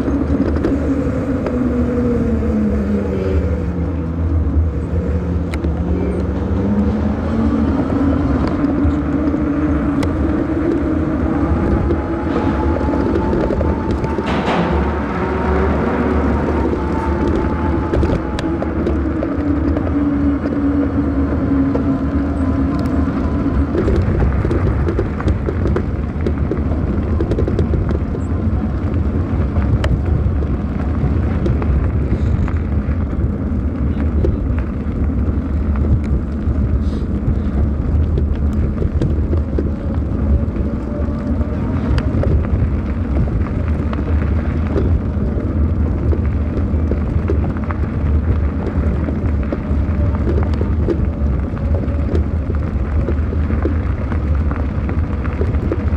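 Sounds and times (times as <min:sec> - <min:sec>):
droning tone dropping in pitch: 0:00.0 - 0:55.9
wind buffeting microphone: 0:00.0 - 0:55.9.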